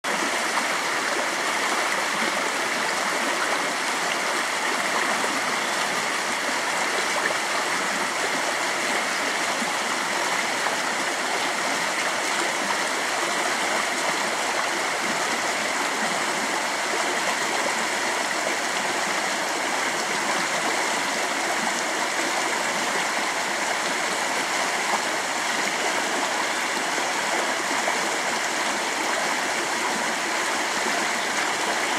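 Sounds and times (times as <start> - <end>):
stream rushing over rocks: 0.1 - 31.9.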